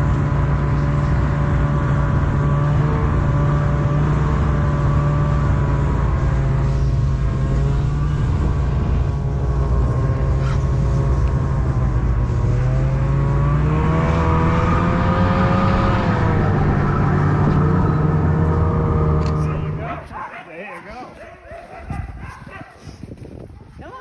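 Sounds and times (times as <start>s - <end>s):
vehicle engine running: 0.0s - 20.3s.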